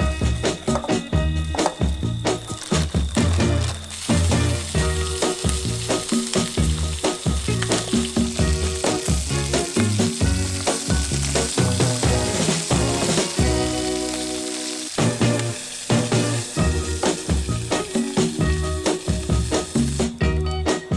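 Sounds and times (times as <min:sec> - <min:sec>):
background music with beat: 0:00.0 - 0:20.9
food sizzling in a pan: 0:00.0 - 0:20.9.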